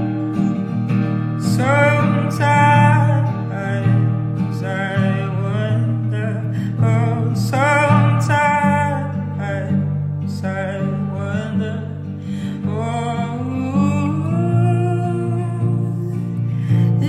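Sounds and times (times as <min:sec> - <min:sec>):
guitar accompaniment: 0:00.0 - 0:17.0.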